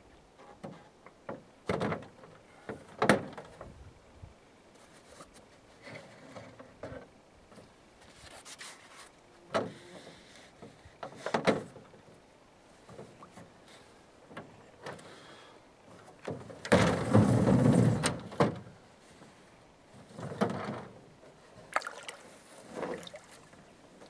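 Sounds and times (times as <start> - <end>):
boat parts knocking and scraping: 0.3 - 3.8, 4.8 - 15.3, 15.9 - 21.7.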